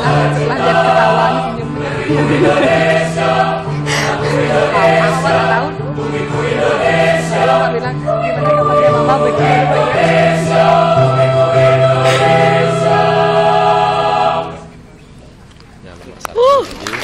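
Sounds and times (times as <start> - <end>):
choir singing in parts: 0.0 - 14.7.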